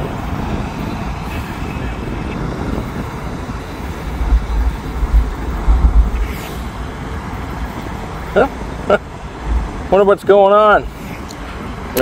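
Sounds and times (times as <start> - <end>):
diesel locomotive running: 0.0 - 12.0
wind buffeting microphone: 0.0 - 12.0.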